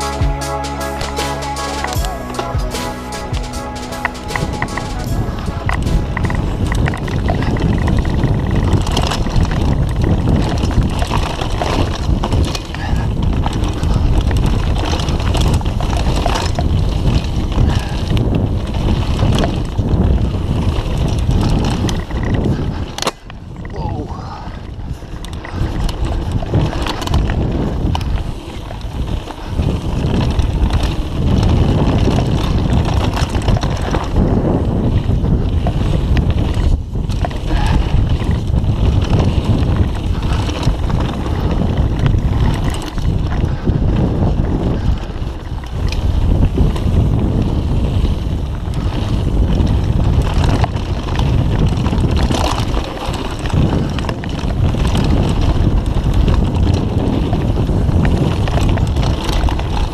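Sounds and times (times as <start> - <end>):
wind rushing over microphone: 0.0 - 1.2, 1.8 - 59.9
bike rattling over bumps: 0.0 - 59.9
tyres on dirt: 0.0 - 59.9.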